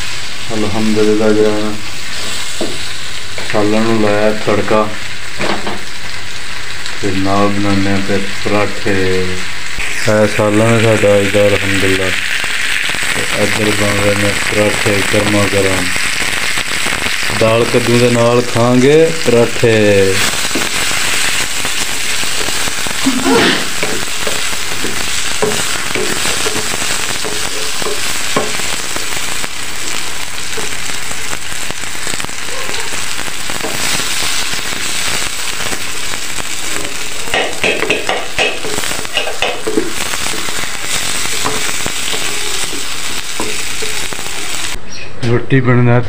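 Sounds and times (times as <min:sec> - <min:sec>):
flatbread sizzling on griddle: 0:00.0 - 0:44.8.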